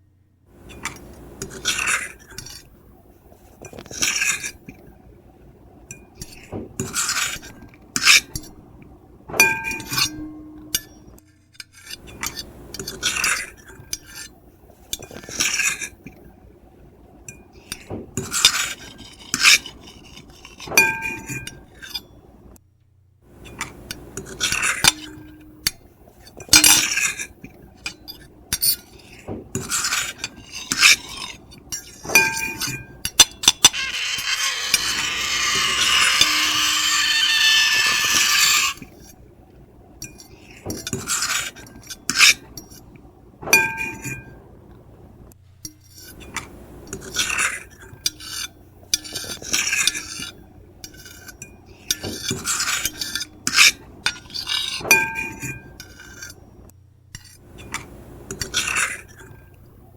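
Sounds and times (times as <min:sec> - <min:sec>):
fork and knife scraping a plate: 0:00.7 - 0:02.7, 0:03.5 - 0:04.8, 0:06.2 - 0:08.6, 0:09.4 - 0:16.2, 0:17.3 - 0:22.2, 0:23.4 - 0:39.2, 0:40.0 - 0:42.9, 0:45.7 - 0:56.6, 0:57.2 - 0:59.5.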